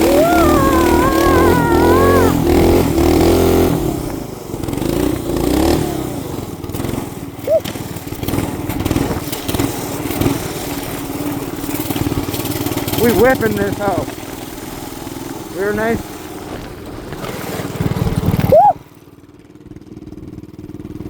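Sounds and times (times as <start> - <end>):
small engine running hard: 0.0 - 21.0.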